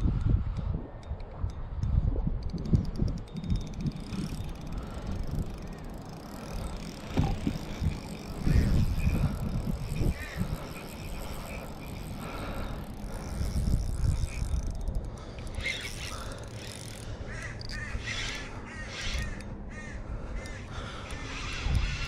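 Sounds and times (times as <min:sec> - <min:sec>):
fishing reel whirring and clicking: 0:00.0 - 0:22.0
wind buffeting microphone: 0:00.0 - 0:22.0.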